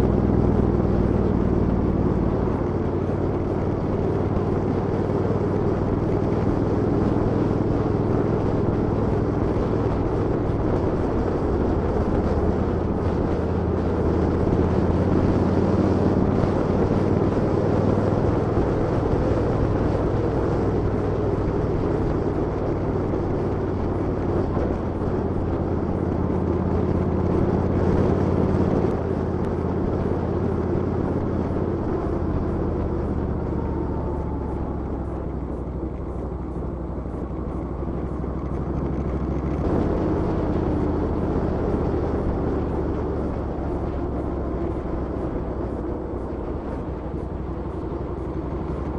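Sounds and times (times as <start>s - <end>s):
vehicle engine droning: 0.0s - 48.9s.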